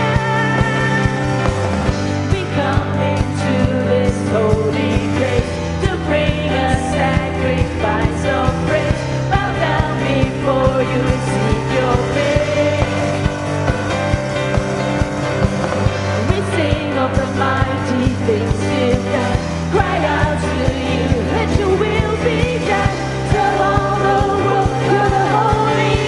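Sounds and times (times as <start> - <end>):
bass: 0.0 - 26.0
drums: 0.0 - 26.0
worship band playing: 0.0 - 26.0.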